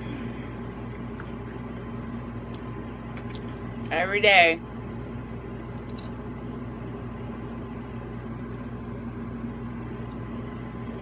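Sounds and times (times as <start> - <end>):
machine hum with held tones: 0.0 - 11.0.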